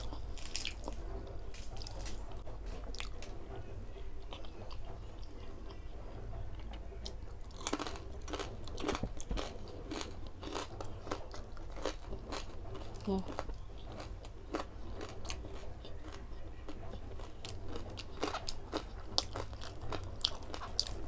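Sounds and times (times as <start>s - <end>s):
chewing crispy pork: 0.0s - 21.0s.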